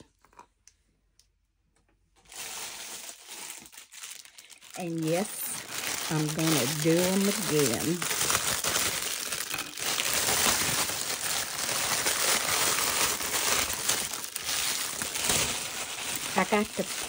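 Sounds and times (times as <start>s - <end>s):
plastic wrapping crinkling: 2.2s - 17.0s.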